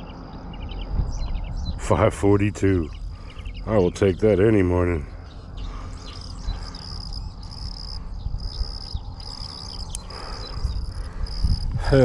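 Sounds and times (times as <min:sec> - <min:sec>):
insects trilling: 0:00.0 - 0:12.0
low rumble: 0:00.0 - 0:12.0.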